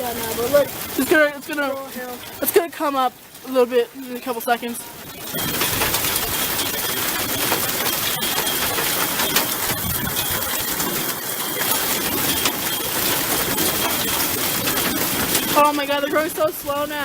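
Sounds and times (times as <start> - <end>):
hail clattering on hard surfaces: 0.0 - 17.0.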